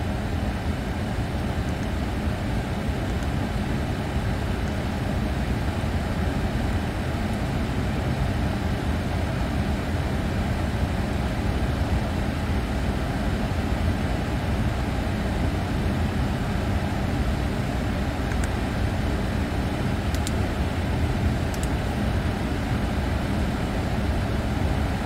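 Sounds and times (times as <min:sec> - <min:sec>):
aircraft cockpit rumble and hiss: 0:00.0 - 0:25.0.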